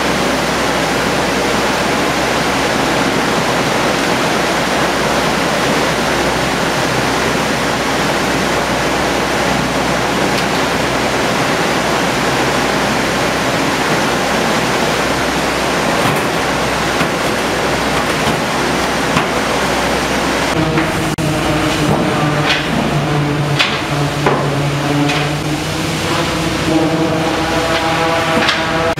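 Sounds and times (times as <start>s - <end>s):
processing machinery rushing: 0.0s - 28.9s.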